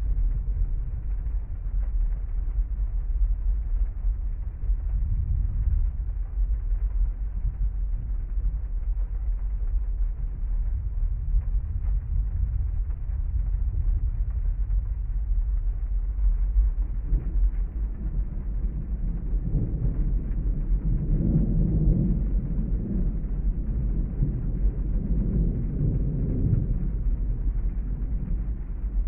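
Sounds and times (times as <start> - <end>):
distant thunder rumbling: 0.0 - 29.0
muffled rain on a car: 0.0 - 29.0.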